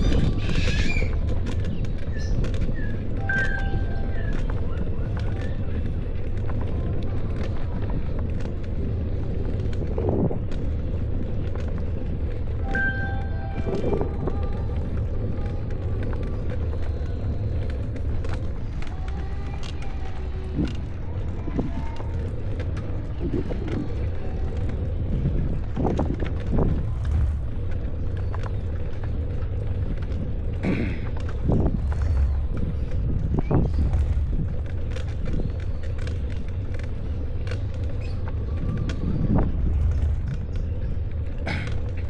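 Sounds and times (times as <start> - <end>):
bicycle creaks and rattles: 0.0 - 42.0
low rumble: 0.0 - 42.0.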